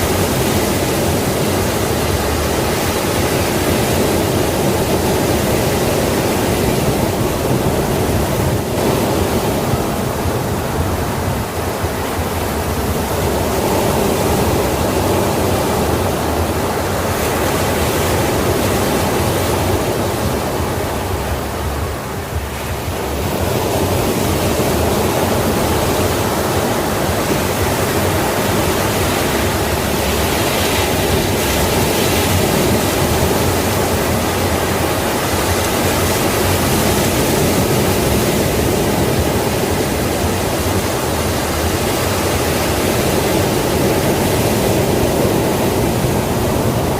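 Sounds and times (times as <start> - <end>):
ocean waves washing onto shore: 0.0 - 46.9.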